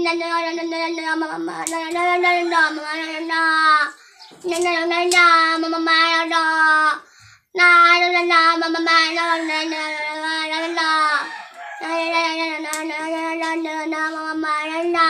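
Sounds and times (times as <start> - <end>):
boy singing unaccompanied: 0.0 - 15.0.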